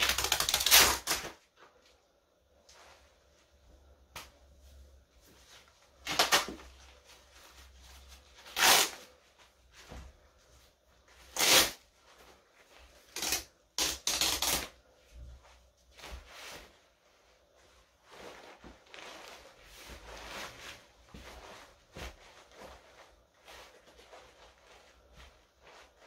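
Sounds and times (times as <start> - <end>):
shiny fabric rustling and crackling: 0.0 - 26.0.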